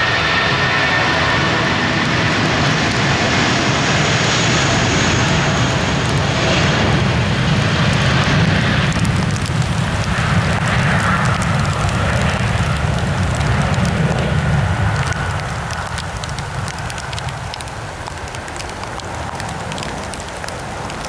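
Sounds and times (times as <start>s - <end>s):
jet engines roaring at takeoff: 0.0s - 21.0s.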